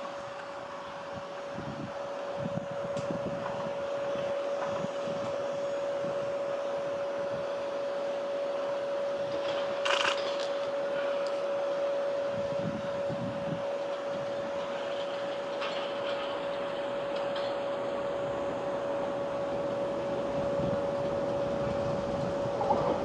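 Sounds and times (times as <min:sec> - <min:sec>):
steady high-pitched hum: 0:00.0 - 0:23.0
train rumbling slowly: 0:00.0 - 0:23.0.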